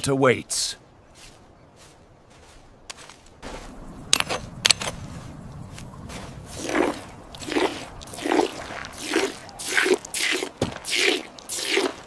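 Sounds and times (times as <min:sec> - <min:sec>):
crunching sounds: 0:01.2 - 0:12.0.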